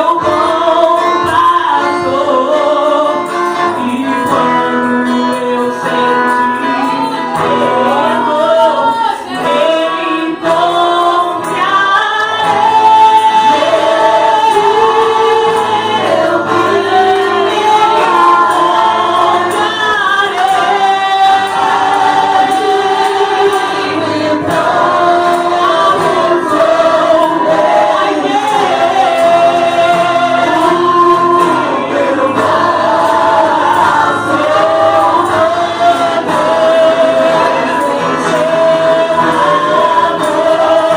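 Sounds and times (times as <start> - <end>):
choir singing a gospel song: 0.0 - 40.9.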